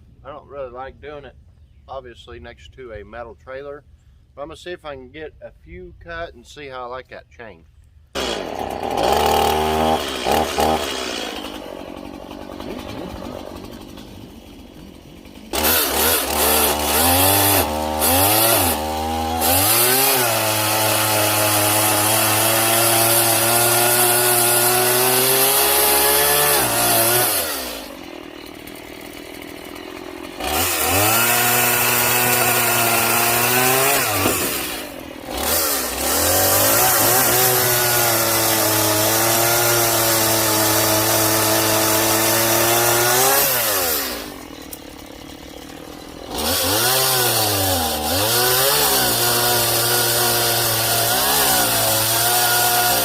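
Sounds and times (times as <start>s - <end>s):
chainsaw cutting logs: 8.0s - 53.0s.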